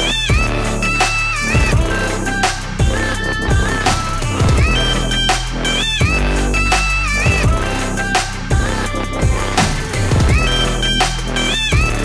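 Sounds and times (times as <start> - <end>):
electronic music with deep bass: 0.0 - 12.0.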